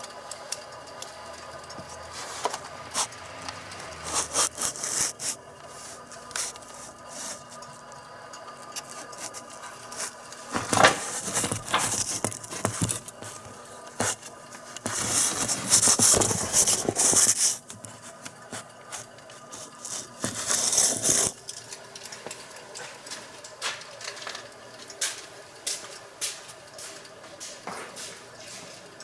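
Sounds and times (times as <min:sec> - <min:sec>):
burner scraping hissing rasps: 0:00.1 - 0:29.0.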